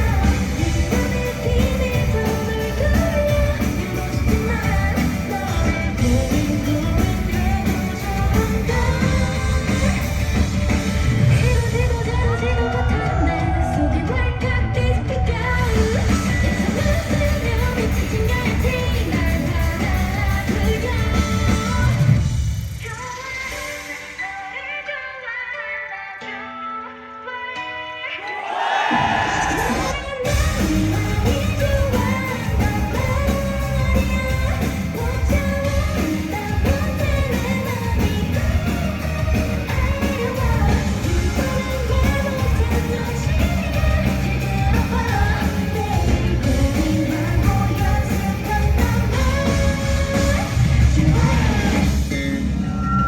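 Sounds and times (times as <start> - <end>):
woman singing lead vocal: 0.0 - 52.2
pop-rock band playing: 0.0 - 53.0.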